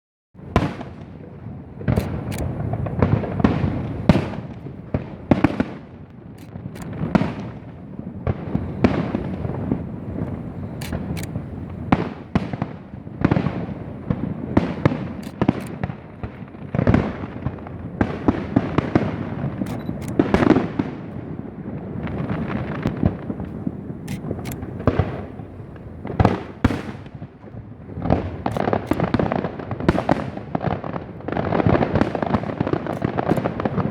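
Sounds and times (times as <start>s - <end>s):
firework booms: 0.4s - 33.9s
firework sharp cracks: 0.4s - 33.9s.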